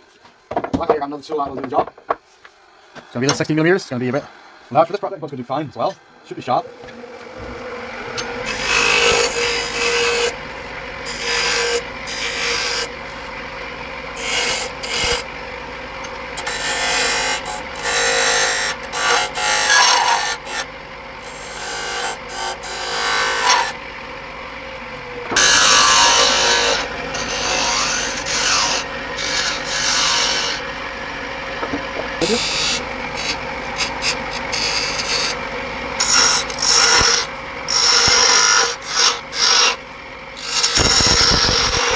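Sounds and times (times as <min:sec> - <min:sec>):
wood lathe humming: 0:02.9 - 0:41.9
gouge cutting wood: 0:06.8 - 0:24.2, 0:24.9 - 0:39.8, 0:40.4 - 0:41.9.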